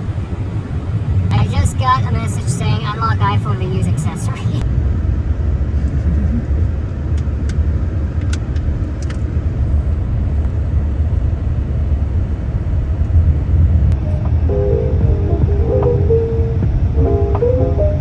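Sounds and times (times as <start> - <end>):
road and engine noise inside car: 0.0 - 17.5.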